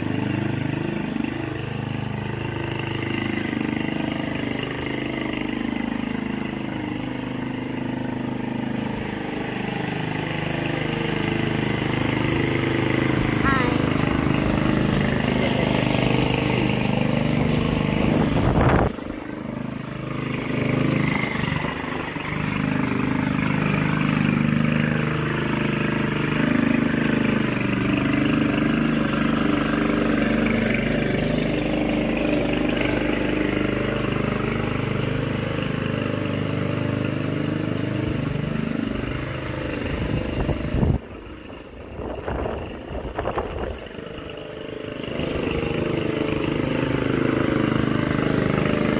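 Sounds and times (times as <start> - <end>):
lawn mower engine cutting grass: 0.0 - 48.9.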